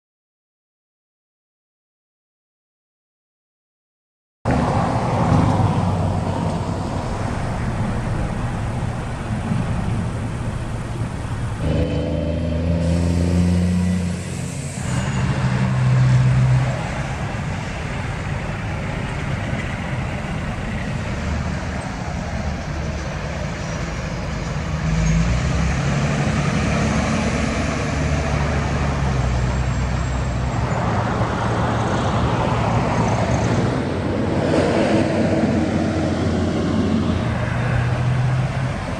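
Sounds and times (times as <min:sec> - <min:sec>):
engine hum: 0:04.5 - 0:38.9
vehicles passing: 0:04.5 - 0:38.9.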